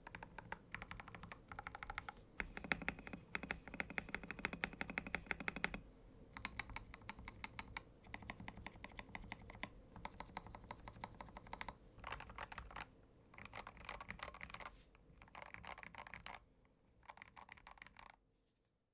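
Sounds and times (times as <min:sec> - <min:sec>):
mechanical keyboard typing: 0:00.0 - 0:05.8, 0:06.4 - 0:16.4, 0:17.0 - 0:18.2.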